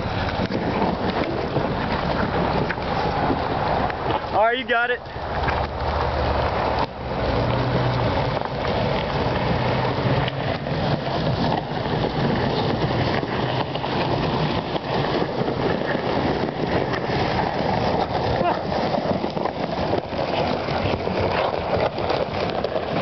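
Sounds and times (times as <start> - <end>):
rough rushing noise: 0.0 - 23.0
vehicle engine running: 0.0 - 23.0.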